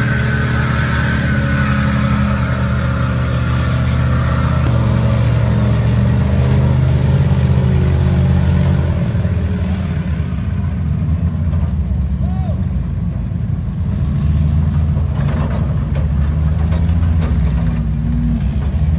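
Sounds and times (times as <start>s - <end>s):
big engine running under load: 0.0s - 18.9s.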